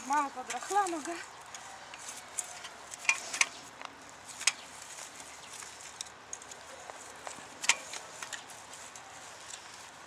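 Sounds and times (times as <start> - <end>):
cultivator tines scraping soil: 0.0 - 10.0.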